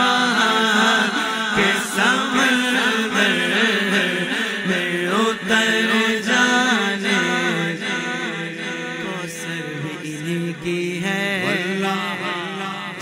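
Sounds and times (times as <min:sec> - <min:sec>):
chant-like vocal backing: 0:00.0 - 0:13.0
man singing devotional song: 0:00.0 - 0:13.0.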